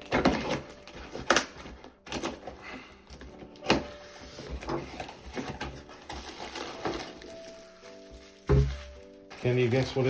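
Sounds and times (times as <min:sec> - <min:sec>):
packaging rustling and scraping: 0:00.0 - 0:10.0.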